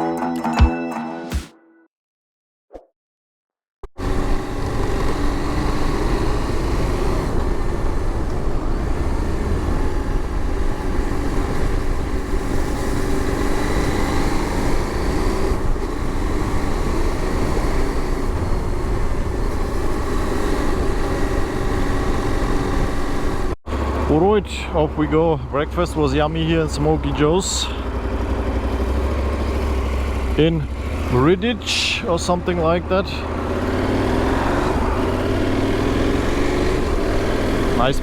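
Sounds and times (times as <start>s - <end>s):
motorcycle engine running: 4.0s - 24.9s, 25.7s - 38.0s
low wind rumble: 4.2s - 38.0s.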